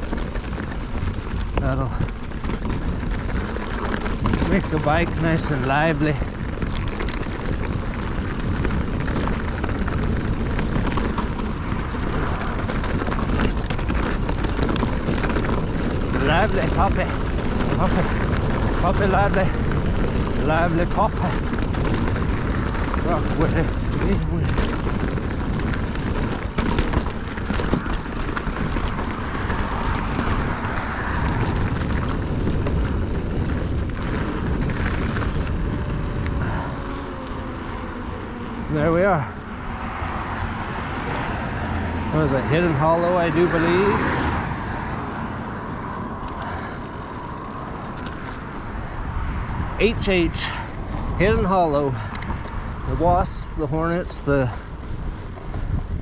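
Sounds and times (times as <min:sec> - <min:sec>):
bike clicks and rattles: 0:00.0 - 0:56.0
bike tyres rolling on dirt: 0:00.0 - 0:56.0
wind rushing over microphone: 0:00.0 - 0:56.0.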